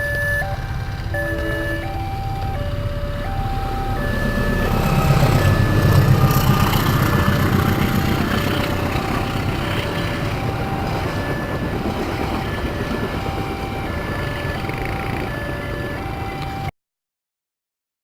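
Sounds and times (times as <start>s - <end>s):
train rumbling past: 0.0s - 16.3s
two-tone crossing alarm: 0.0s - 16.7s.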